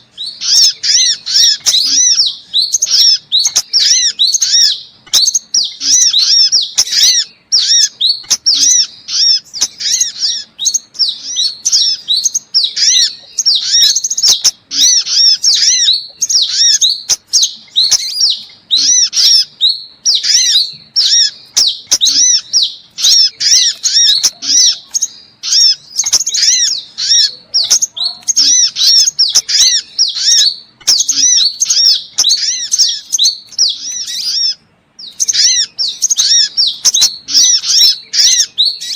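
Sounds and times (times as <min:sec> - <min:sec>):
high thin bird chirps: 0:00.0 - 0:38.9.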